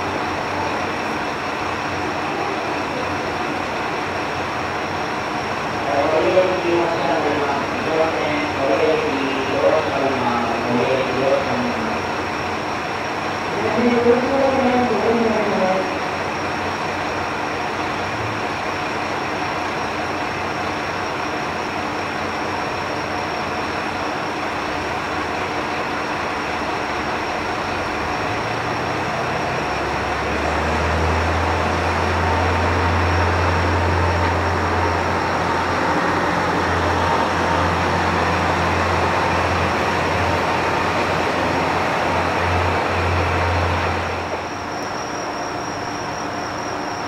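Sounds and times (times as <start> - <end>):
diesel railcar engine drone: 0.0 - 47.0.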